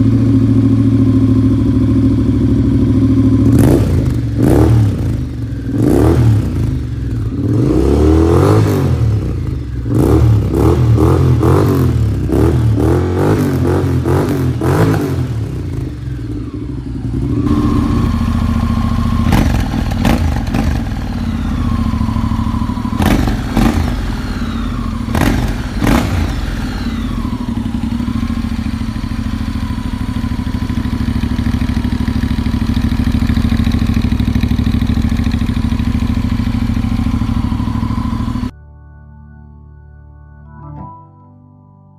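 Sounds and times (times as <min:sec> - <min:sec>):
motorcycle engine idling: 0:00.0 - 0:38.5
motorcycle engine revving: 0:00.0 - 0:38.5.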